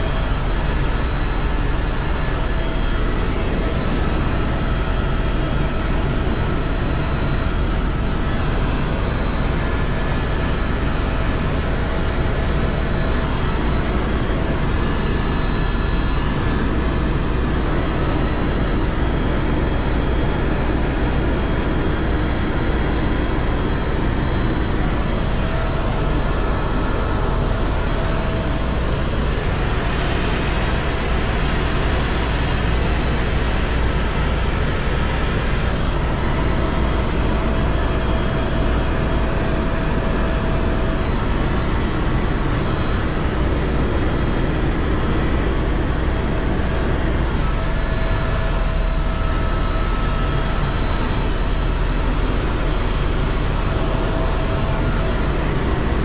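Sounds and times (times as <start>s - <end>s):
faint steady whines: 0.0s - 56.0s
helicopter rotor and turbine drone: 0.0s - 56.0s.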